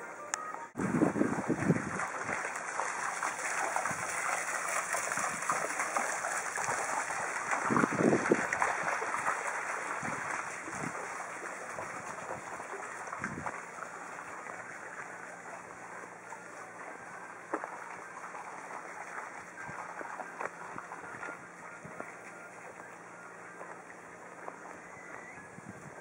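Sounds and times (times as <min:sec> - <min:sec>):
rushing water-like noise: 0:00.7 - 0:25.4.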